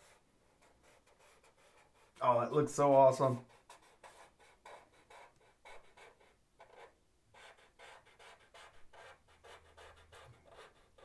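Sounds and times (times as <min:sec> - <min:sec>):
marker scratching on paper: 0:00.0 - 0:11.0.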